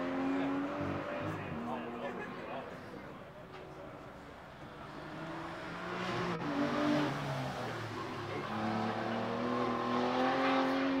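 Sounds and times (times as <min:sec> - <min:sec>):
car engine at full throttle: 0:00.0 - 0:02.7, 0:04.2 - 0:11.0.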